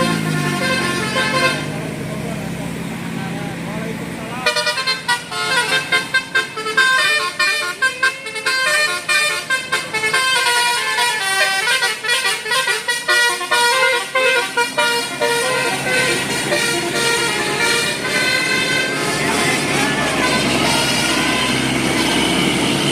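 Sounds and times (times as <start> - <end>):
bus musical horn playing a tune: 0.0 - 2.0, 4.4 - 22.9.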